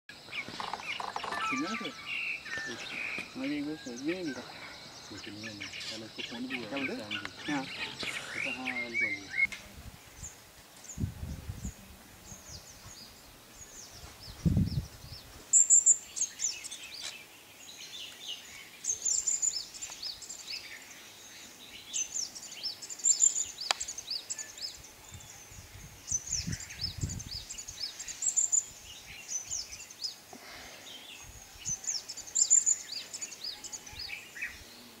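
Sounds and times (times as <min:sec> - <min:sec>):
wild birds chirping: 0:00.1 - 0:35.0.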